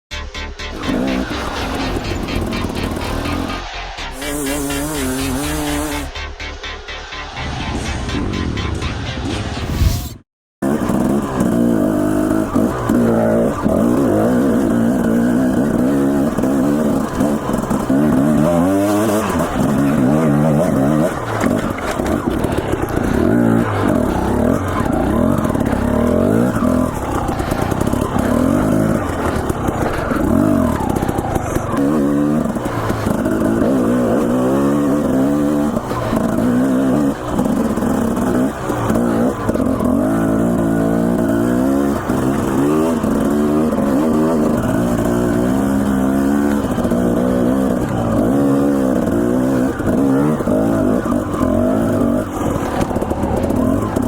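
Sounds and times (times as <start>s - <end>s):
dirt bike engine revving: 0.1s - 8.9s, 10.6s - 54.0s.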